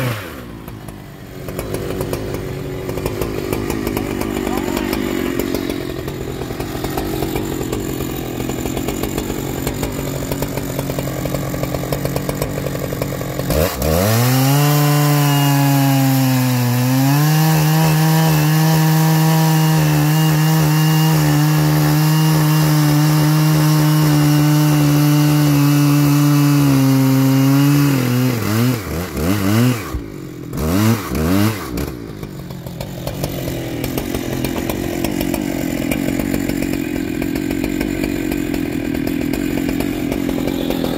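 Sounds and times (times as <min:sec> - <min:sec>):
chainsaw cutting into log: 0:00.0 - 0:40.9
chainsaw engine revving: 0:00.0 - 0:40.9.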